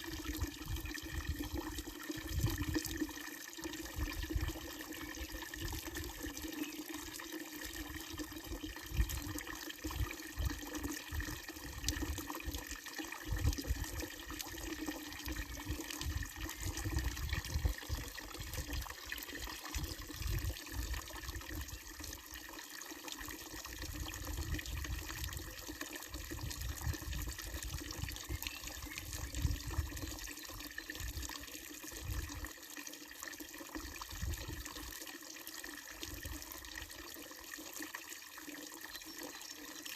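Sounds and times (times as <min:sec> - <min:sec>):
water pouring into basin: 0:00.0 - 0:39.9.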